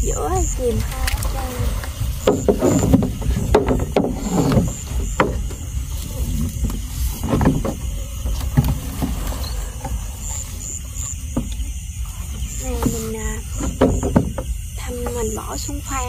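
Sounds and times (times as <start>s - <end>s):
knocks and splashes in a boat: 0.0s - 16.0s
steady low rumble: 0.0s - 16.0s.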